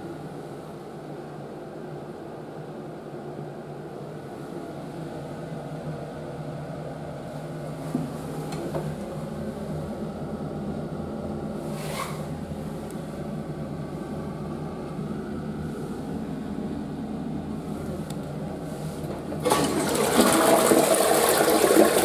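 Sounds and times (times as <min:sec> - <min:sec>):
ventilation hum: 0:00.0 - 0:22.0.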